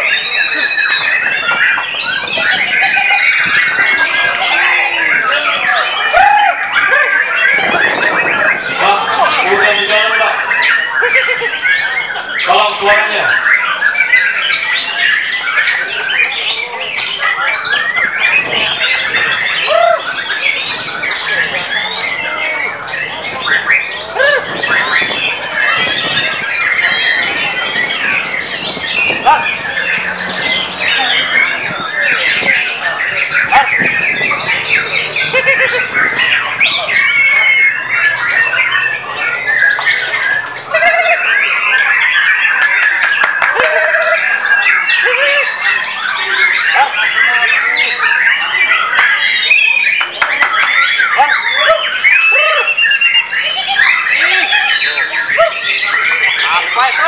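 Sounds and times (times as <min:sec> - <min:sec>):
songbird whistles and trills: 0:00.0 - 0:12.6, 0:13.3 - 0:56.8
other songbirds singing: 0:00.0 - 0:57.0.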